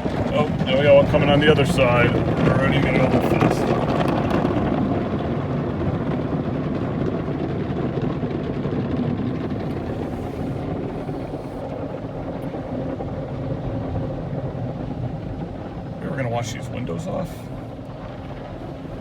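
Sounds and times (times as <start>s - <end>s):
car wash machinery churning: 0.0s - 19.0s.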